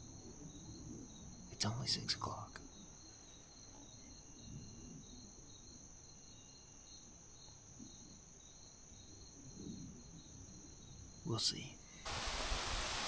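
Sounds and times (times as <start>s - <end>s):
steady high insect trill: 0.0s - 13.0s.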